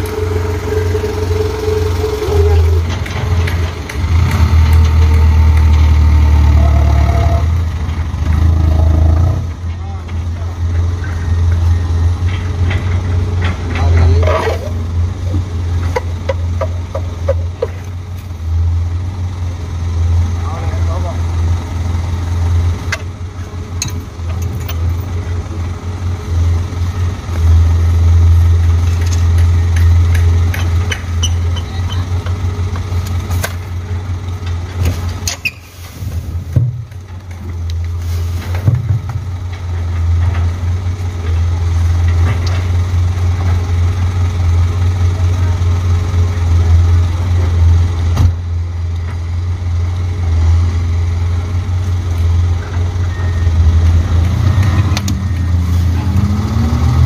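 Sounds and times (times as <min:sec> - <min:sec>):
truck diesel engine humming: 0:00.0 - 0:57.0.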